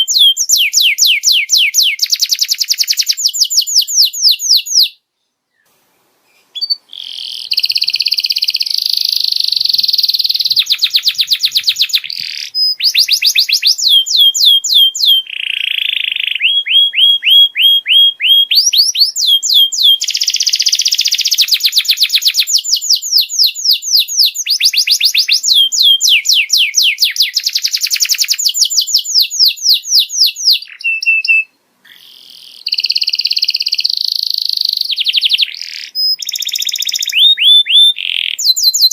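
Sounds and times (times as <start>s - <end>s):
canary singing trills: 0.0s - 5.7s, 6.3s - 38.9s.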